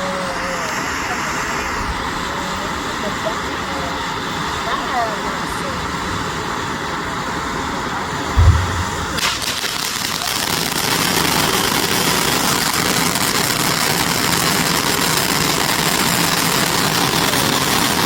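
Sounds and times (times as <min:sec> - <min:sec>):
fountain firework hissing: 0:00.0 - 0:08.3, 0:09.2 - 0:18.0.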